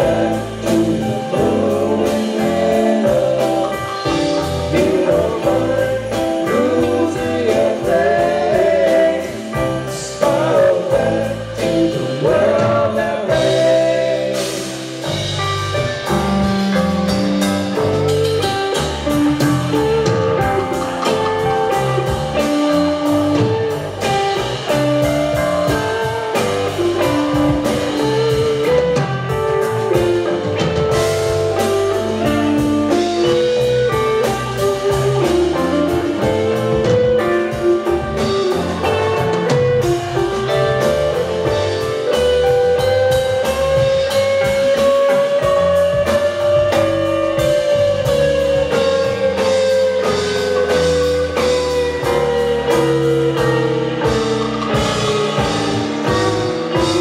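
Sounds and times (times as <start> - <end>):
drum kit beat: 0.0 - 57.0
electric guitar lead bending: 0.0 - 57.0
live rock band playing: 0.0 - 57.0.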